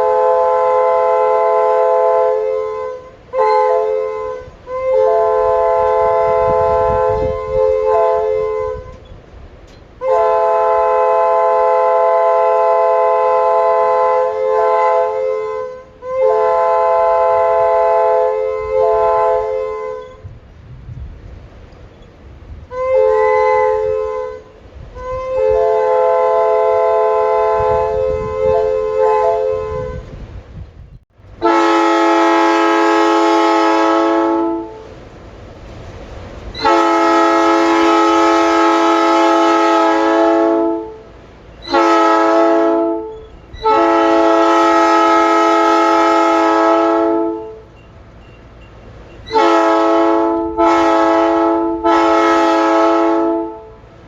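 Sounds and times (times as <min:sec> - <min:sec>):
locomotive air horns: 0:00.0 - 0:09.1, 0:10.0 - 0:20.3, 0:22.6 - 0:30.3, 0:31.4 - 0:35.0, 0:36.5 - 0:54.0.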